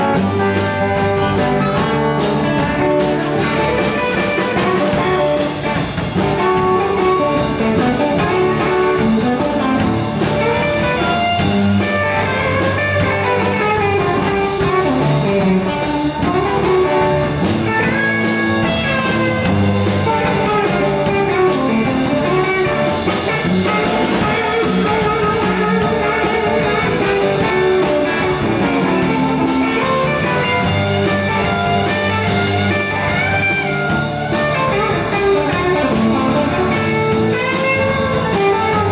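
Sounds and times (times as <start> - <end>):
bass guitar: 0.0 - 38.9
drums: 0.0 - 38.9
electric guitars: 0.0 - 38.9
amplified harmonica: 6.4 - 38.9.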